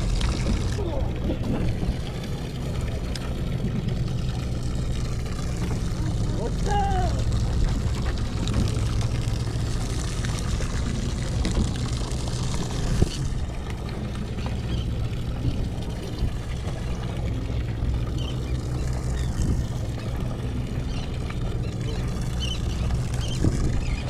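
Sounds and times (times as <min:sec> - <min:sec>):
boat engine drone: 0:00.0 - 0:24.0
rushing water and wind: 0:00.0 - 0:24.0.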